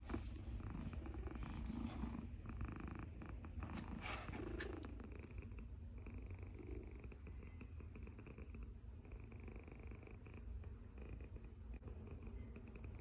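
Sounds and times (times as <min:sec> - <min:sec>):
cat purring: 0:00.0 - 0:11.5.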